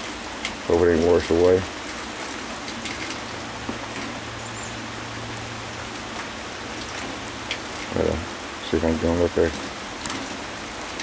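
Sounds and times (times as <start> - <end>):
creek rushing: 0.0 - 11.0
rain falling: 0.0 - 11.0
water drips: 0.0 - 11.0.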